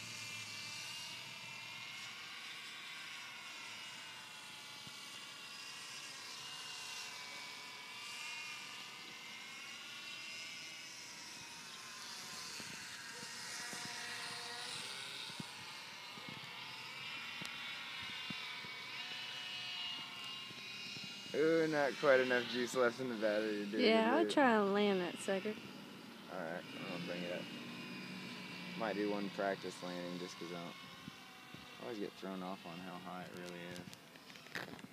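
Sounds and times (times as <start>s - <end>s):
model plane motor whine: 0.0s - 34.9s.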